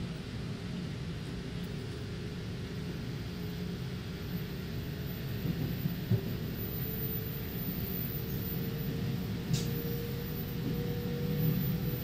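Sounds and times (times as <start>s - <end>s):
train interior running rumble: 0.0s - 12.0s.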